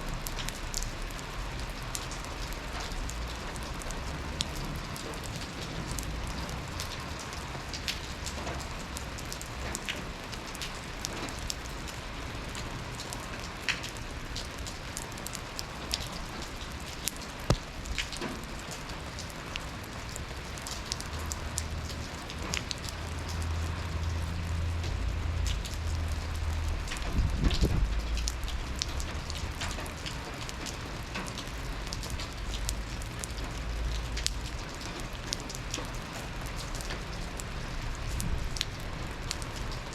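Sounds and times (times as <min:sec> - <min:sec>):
rain drops tapping: 0:00.0 - 0:39.9.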